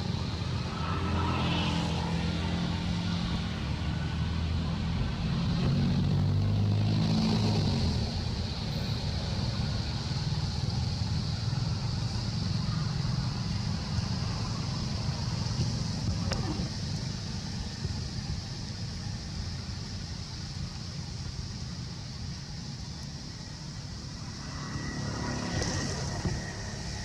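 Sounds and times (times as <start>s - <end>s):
high-pitched hiss: 0.0s - 27.0s
vehicle engine rumbling: 0.0s - 27.0s.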